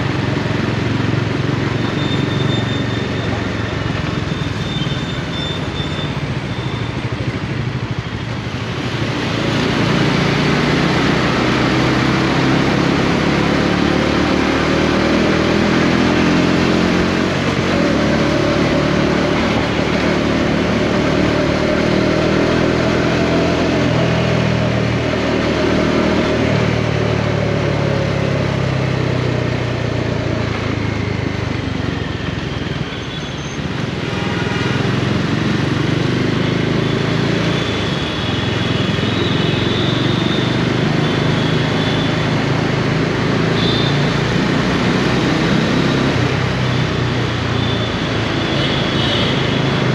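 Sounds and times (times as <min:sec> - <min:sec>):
motorcycle engine revving: 0:06.2 - 0:32.8, 0:33.6 - 0:49.9.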